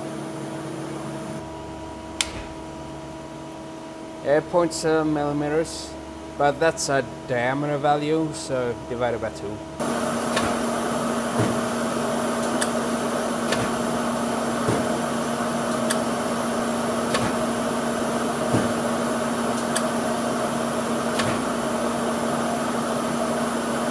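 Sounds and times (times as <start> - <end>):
lathe running with steady hum: 0.0 - 23.9.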